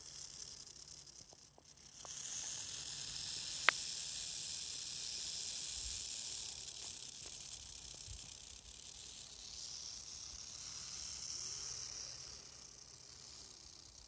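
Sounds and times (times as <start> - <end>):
rattlesnake rattling: 0.0 - 14.0.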